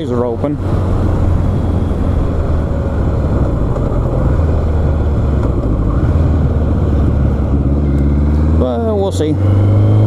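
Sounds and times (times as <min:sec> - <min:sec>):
motorcycle engine drone: 0:00.0 - 0:10.0.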